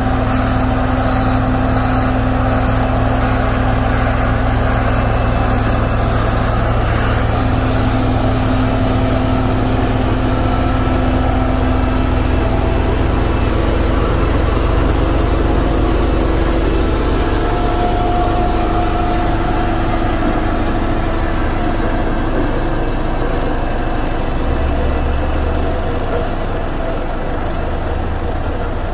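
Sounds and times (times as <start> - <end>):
road roller diesel engine running: 0.0 - 28.9.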